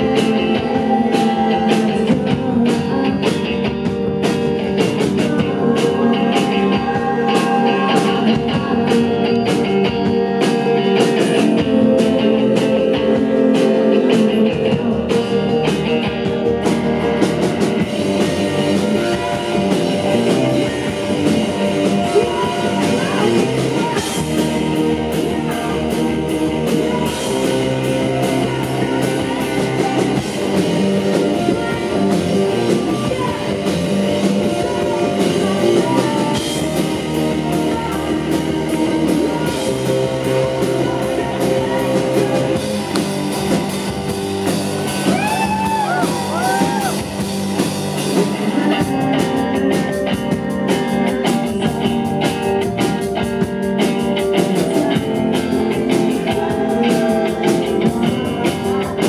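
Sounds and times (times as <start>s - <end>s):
bass guitar: 0.0s - 59.0s
distorted electric guitar: 0.0s - 59.0s
drum kit: 0.0s - 59.0s.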